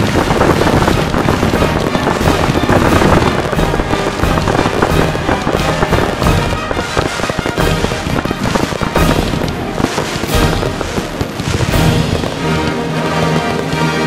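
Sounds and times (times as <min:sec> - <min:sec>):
firework shell bursts: 0:00.0 - 0:14.0
music playing: 0:00.0 - 0:14.0.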